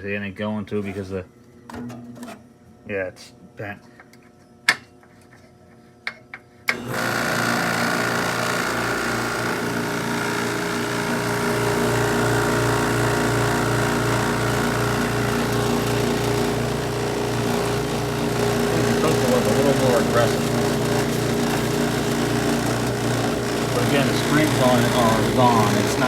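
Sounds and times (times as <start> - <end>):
compressor humming and buzzing: 0.0 - 26.0.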